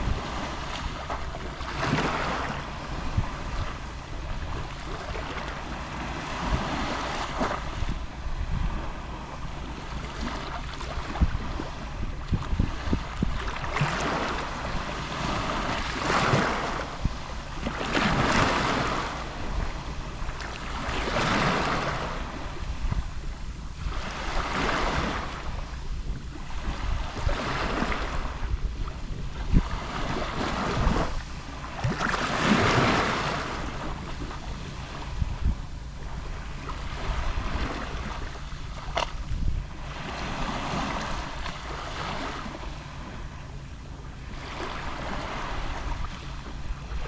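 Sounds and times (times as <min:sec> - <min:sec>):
sea waves lapping on shore: 0:00.0 - 0:47.0
wind rumble on microphone: 0:00.0 - 0:47.0.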